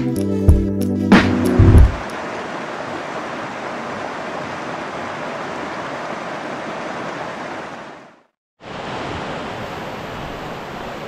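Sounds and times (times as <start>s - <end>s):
river water rushing: 1.6s - 11.0s.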